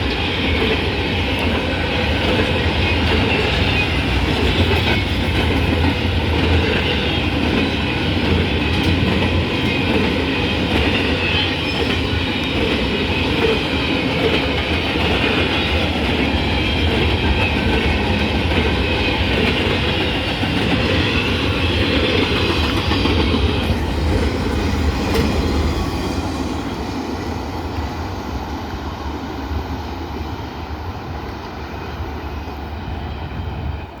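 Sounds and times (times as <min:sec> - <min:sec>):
train wheels clattering: 0:00.0 - 0:28.6.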